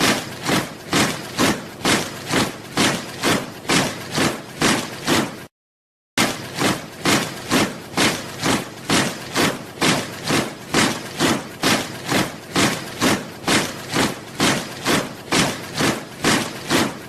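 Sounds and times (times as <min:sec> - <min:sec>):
soldiers marching in step: 0:00.0 - 0:05.5, 0:06.2 - 0:17.0.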